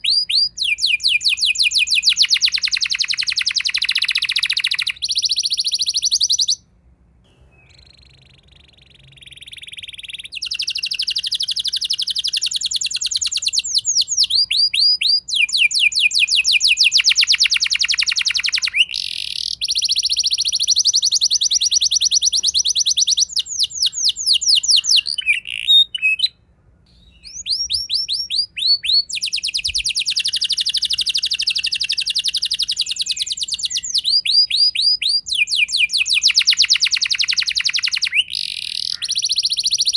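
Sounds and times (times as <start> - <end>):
canary singing trills: 0.0 - 6.6, 7.3 - 39.9.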